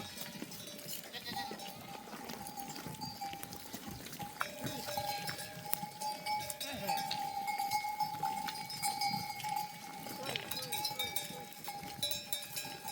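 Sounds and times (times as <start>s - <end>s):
animal bells clinking: 0.0s - 12.9s
sheep and goats bleating: 0.0s - 12.9s.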